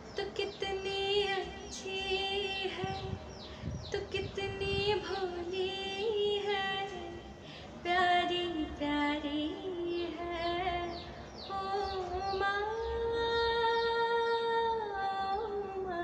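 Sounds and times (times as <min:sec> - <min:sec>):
woman singing slow song: 0:00.1 - 0:16.0.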